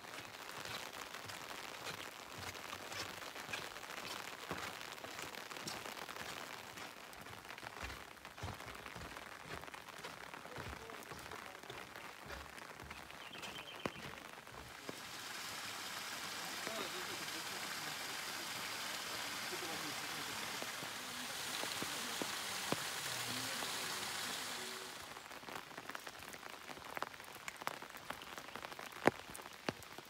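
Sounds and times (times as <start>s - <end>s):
rain tapping on an umbrella: 0.0s - 30.0s.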